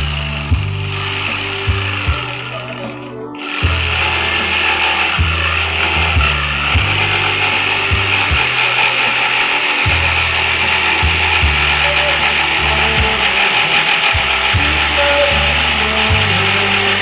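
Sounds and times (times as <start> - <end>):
electric jigsaw cutting wood: 0.0 - 2.8, 3.4 - 17.0.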